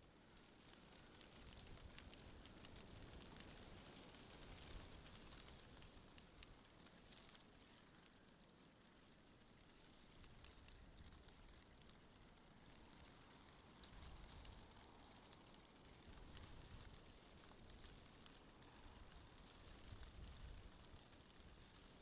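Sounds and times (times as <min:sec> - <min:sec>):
small dry ticks and crackles: 0:00.0 - 0:22.0
wind rustling leaves: 0:00.1 - 0:22.0.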